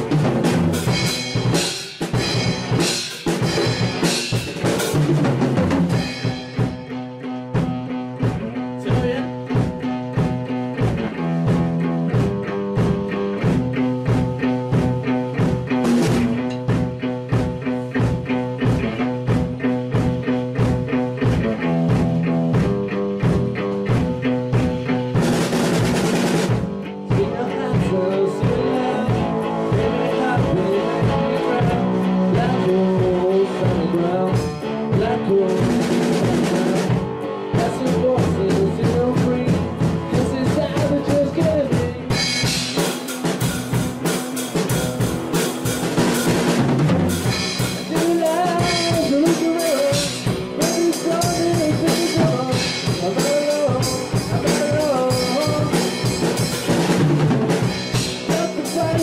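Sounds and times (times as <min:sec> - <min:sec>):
drum kit beat: 0:00.0 - 0:59.0
electric guitar melody: 0:00.0 - 0:59.0.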